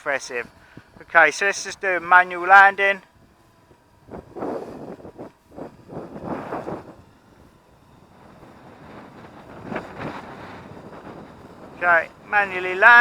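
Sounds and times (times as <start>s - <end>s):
wind gusting on microphone: 0.0s - 13.0s.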